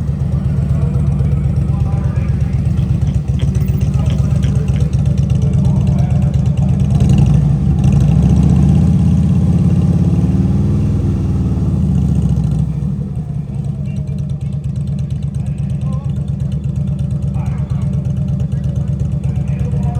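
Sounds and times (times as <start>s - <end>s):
car engine rumbling: 0.0s - 19.9s.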